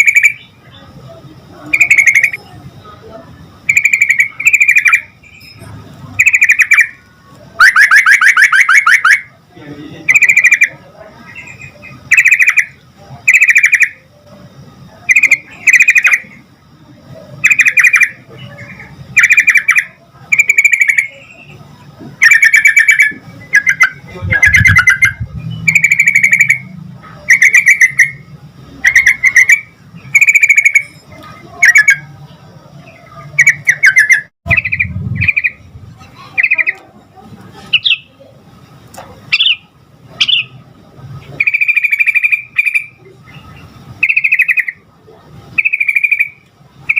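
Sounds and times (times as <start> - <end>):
bulbul calling: 0.0 - 0.7, 1.6 - 2.4, 3.6 - 7.0, 7.6 - 9.4, 10.0 - 14.1, 15.0 - 16.5, 17.4 - 32.2, 32.8 - 36.9, 37.7 - 38.2, 39.3 - 40.6, 41.2 - 44.9, 45.5 - 46.9.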